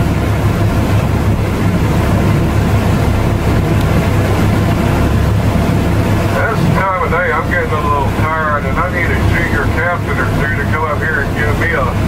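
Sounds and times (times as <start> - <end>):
wind on microphone: 0.0 - 10.5
boat engine droning: 0.0 - 12.0.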